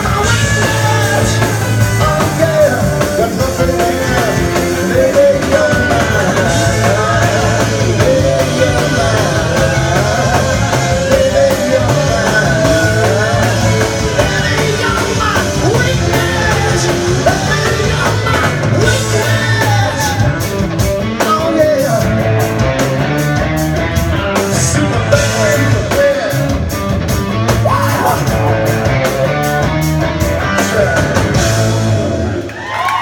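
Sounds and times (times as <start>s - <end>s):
drum kit: 0.0s - 33.0s
electric guitar: 0.0s - 33.0s
lead voice singing: 0.0s - 33.0s.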